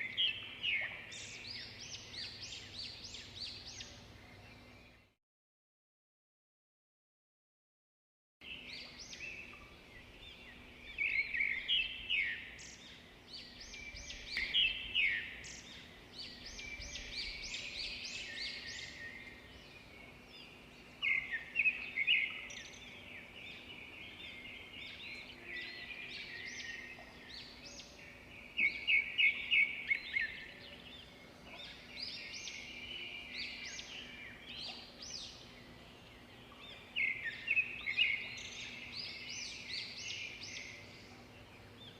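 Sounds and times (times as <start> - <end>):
songbirds chirping and twittering: 0.0 - 5.2, 8.4 - 41.9.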